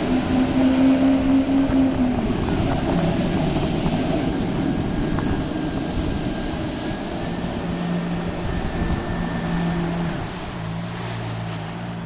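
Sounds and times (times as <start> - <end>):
jet ski engine running: 0.0 - 12.0
wind and water rushing: 0.0 - 12.0.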